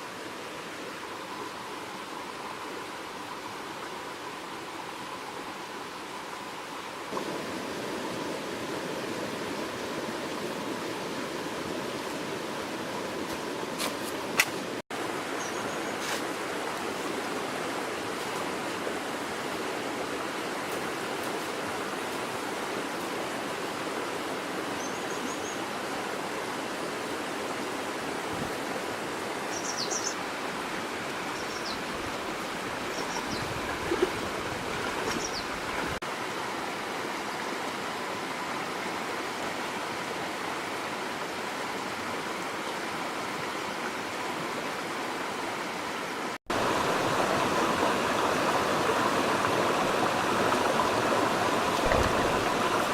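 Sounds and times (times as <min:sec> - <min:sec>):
flowing river water: 0:00.0 - 0:52.9.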